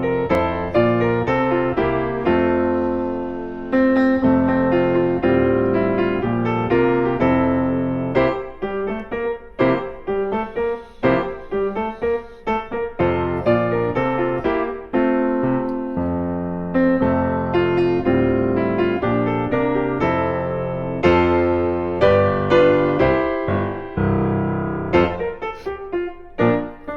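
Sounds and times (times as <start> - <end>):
gentle piano music: 0.0 - 26.9.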